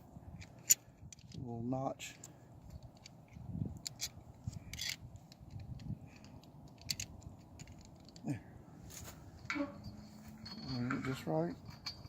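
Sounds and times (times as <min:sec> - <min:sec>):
metal clicks and scraping: 0:00.3 - 0:01.4, 0:02.0 - 0:12.0.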